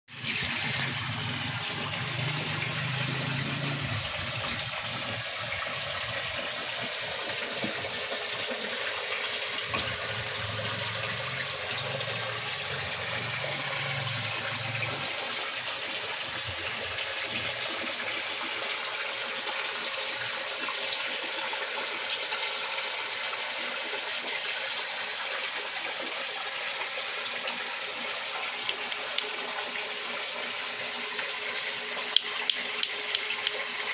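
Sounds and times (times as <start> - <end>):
water rushing in a pond: 0.1 - 33.9.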